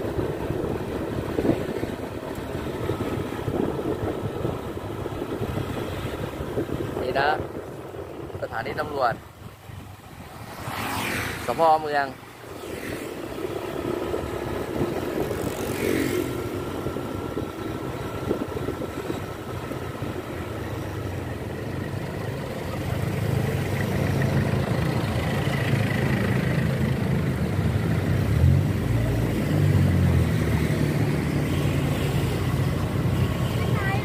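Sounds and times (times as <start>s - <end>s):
motorcycle engine: 0.0s - 34.0s
vehicles passing: 0.0s - 34.0s.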